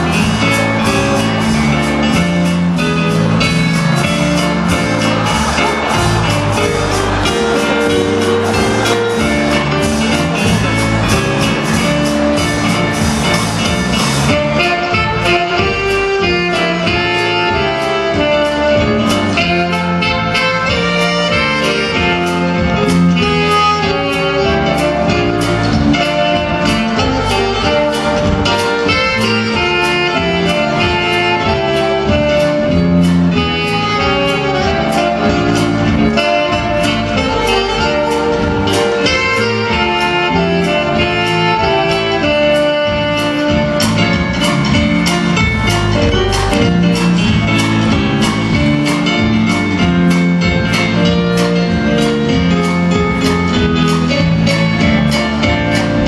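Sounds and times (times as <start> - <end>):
lively instrumental music: 0.0 - 56.0.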